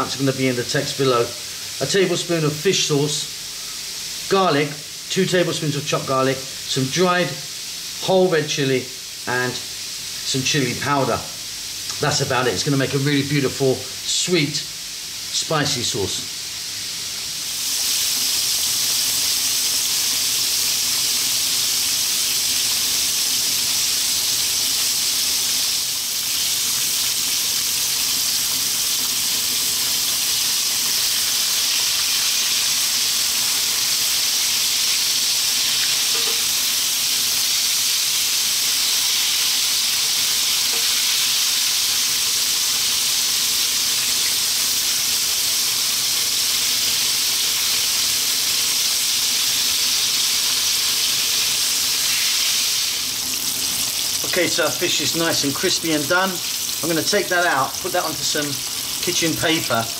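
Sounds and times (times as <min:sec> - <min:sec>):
fish deep-frying in oil: 0:00.0 - 0:59.9.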